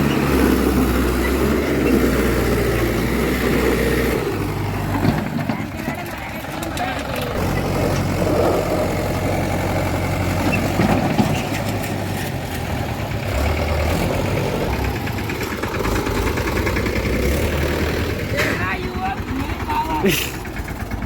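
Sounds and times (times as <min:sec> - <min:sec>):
large diesel engine running: 0:00.0 - 0:21.0.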